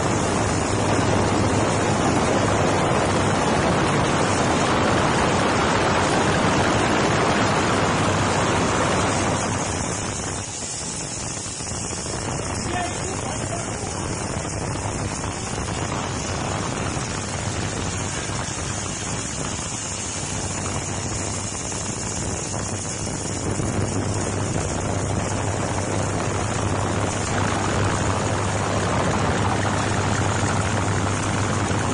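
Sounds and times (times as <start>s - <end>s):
washing machine running with hum: 0.0s - 31.9s.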